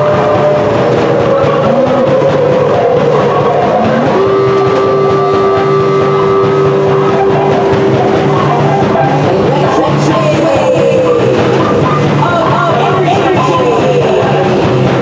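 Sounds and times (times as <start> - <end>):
experimental space music: 0.0 - 15.0
pulsing low note: 0.0 - 15.0
steady held tone: 0.0 - 15.0.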